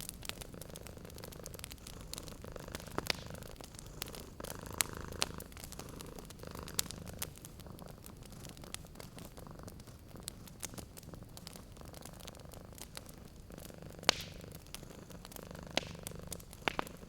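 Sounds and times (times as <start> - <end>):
cat purring: 0.0 - 17.0
wood fire pops and crackles: 0.0 - 17.0.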